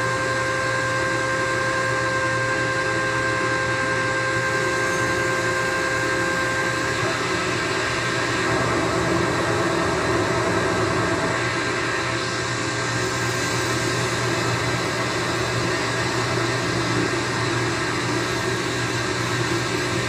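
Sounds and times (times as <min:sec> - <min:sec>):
steady radio whistle: 0:00.0 - 0:20.0.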